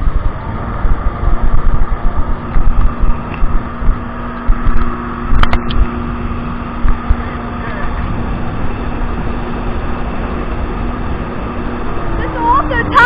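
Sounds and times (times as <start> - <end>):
jet ski engine running: 0.0 - 13.0
wind buffeting microphone: 0.0 - 13.0.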